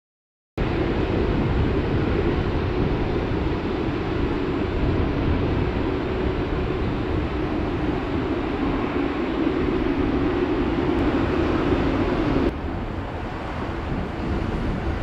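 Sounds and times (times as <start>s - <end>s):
jet engines rumbling at taxi power: 0.6s - 15.0s.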